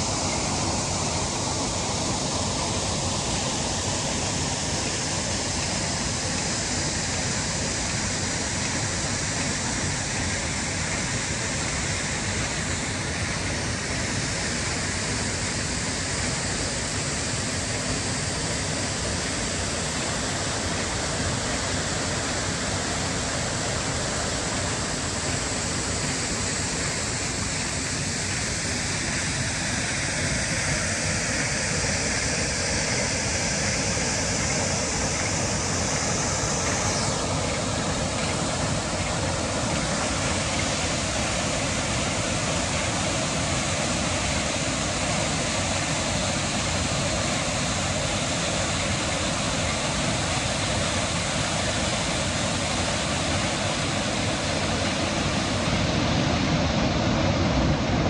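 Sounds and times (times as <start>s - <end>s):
waterfall pouring into pool: 0.0s - 56.7s
river rushing over rocks: 0.0s - 58.0s.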